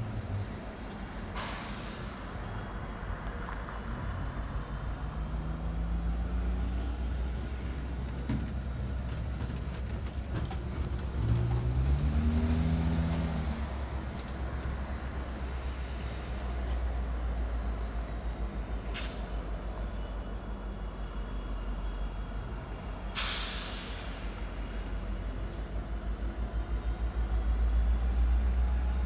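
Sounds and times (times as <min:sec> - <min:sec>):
diesel locomotive engine rumbling: 0:00.0 - 0:29.0.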